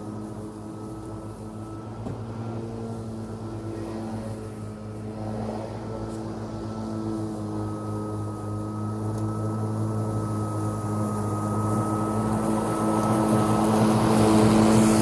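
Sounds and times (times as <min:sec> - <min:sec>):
lawn mower running: 0:00.0 - 0:15.0.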